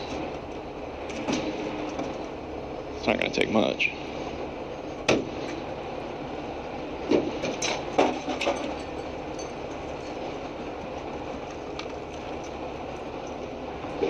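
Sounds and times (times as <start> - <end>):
tow truck engine running: 0.0 - 14.0.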